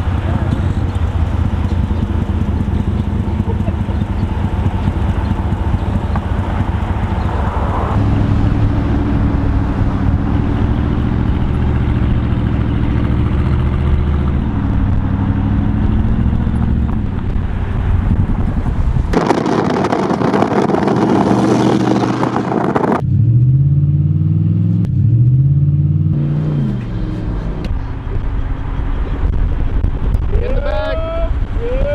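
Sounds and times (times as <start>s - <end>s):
car engine running: 0.0s - 30.2s.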